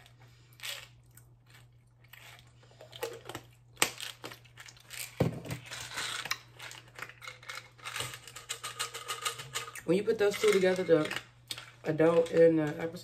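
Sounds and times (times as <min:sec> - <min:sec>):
plastic bottles crinkling: 0:01.6 - 0:13.0.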